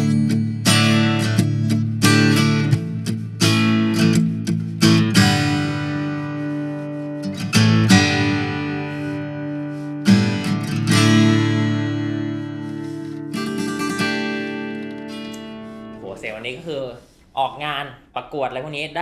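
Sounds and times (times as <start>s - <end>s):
acoustic guitar strummed chords: 0.0s - 16.2s.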